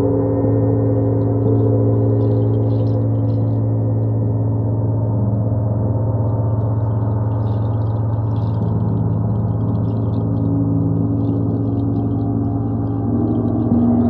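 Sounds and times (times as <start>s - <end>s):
gong drone: 0.0s - 14.0s.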